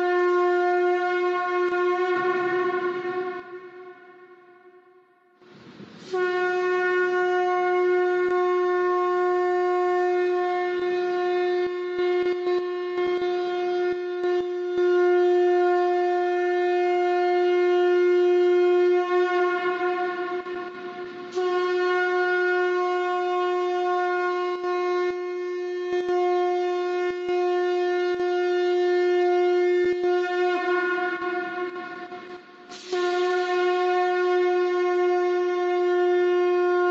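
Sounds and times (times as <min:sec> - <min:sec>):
conch shell trumpet blasts: 0:00.0 - 0:05.1, 0:06.0 - 0:36.9.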